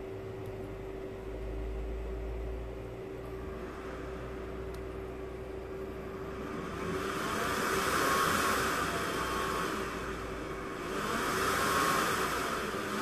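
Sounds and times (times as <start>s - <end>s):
computer fan blowing air: 0.0s - 13.0s.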